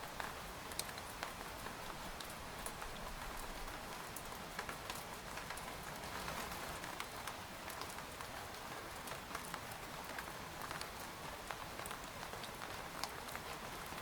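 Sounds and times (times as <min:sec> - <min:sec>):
rain pattering on a tent: 0:00.0 - 0:14.0
raindrops striking fabric: 0:00.0 - 0:14.0.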